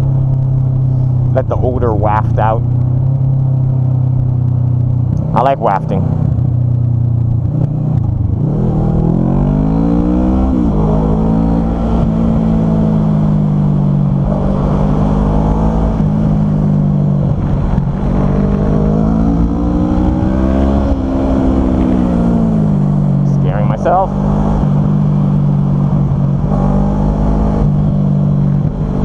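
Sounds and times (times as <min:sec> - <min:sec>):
motorcycle engine revving: 0:00.0 - 0:29.0
wind and road rush: 0:00.0 - 0:29.0.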